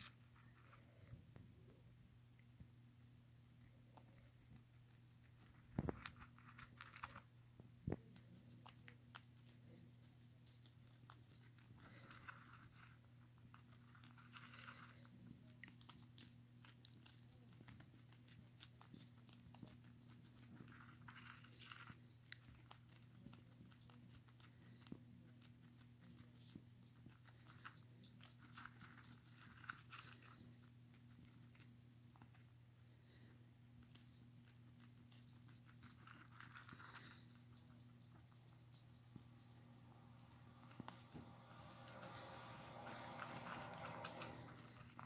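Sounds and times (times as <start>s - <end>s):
guinea pig crunching pellets: 0.0s - 45.0s
steady low hum: 0.0s - 45.0s.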